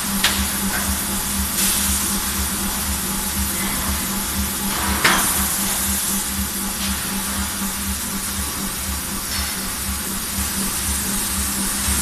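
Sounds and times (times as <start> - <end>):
roller conveyor machinery humming: 0.0 - 12.0.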